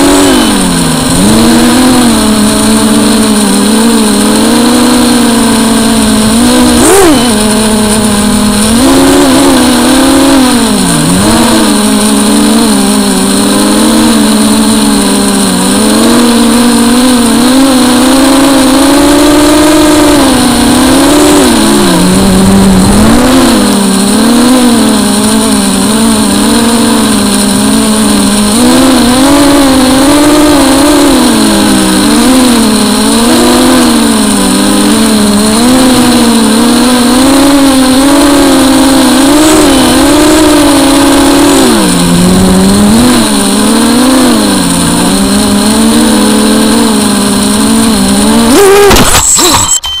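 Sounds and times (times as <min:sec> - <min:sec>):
quadcopter motors buzzing: 0:00.0 - 0:49.8.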